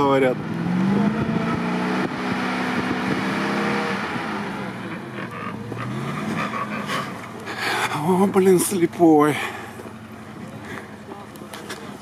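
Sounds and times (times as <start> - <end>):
truck engine running under load: 0.4 - 12.0.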